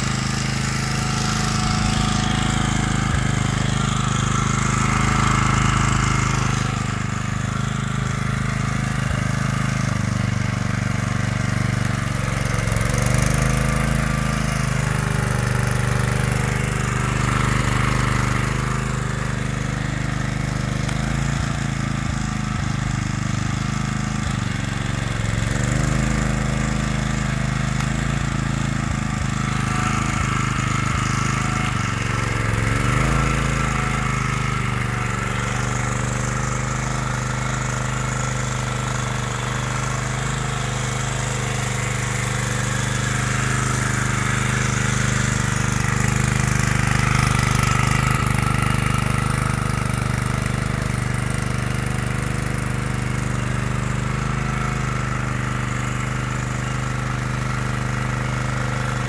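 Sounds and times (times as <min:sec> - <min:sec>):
petrol generator running: 0:00.0 - 0:59.0.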